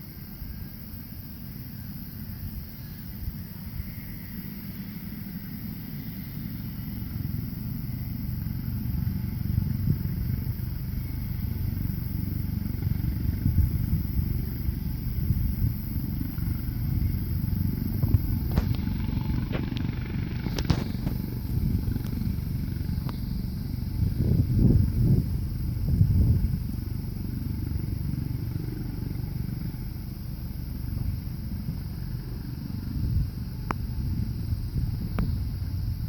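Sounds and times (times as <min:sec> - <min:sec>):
helicopter engines and rotor: 0:00.0 - 0:36.0.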